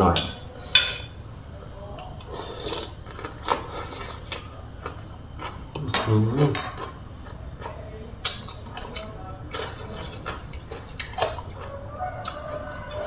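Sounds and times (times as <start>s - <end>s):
chewing: 1.4s - 13.0s.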